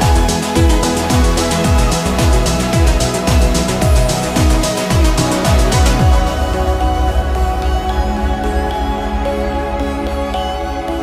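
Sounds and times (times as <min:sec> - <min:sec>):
electronic ambient instrumental music: 0:00.0 - 0:11.0.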